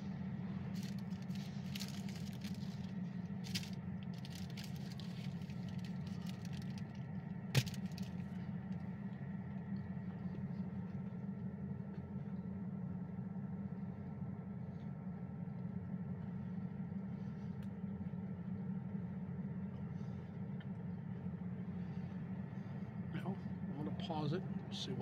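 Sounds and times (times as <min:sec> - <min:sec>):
engine idling hum: 0:00.0 - 0:25.0.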